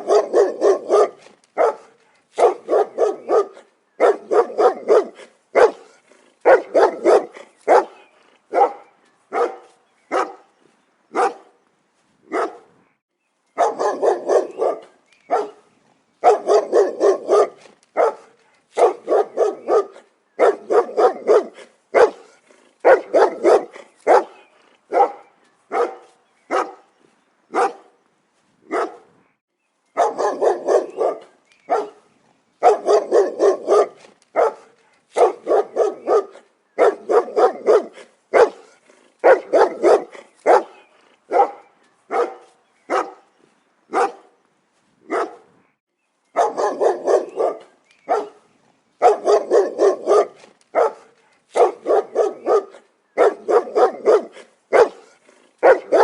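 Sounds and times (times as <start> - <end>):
dog barking: 0.0 - 10.5, 11.1 - 11.6, 12.3 - 12.7, 13.6 - 15.6, 16.2 - 26.9, 27.5 - 27.9, 28.7 - 29.1, 30.0 - 43.3, 43.9 - 44.4, 45.1 - 45.5, 46.4 - 48.4, 49.0 - 56.0.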